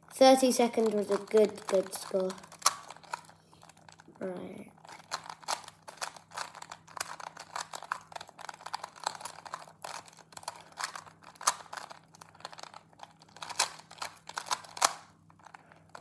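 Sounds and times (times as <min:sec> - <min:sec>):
puzzle cube plastic clicks: 0:00.4 - 0:04.1, 0:04.8 - 0:16.0.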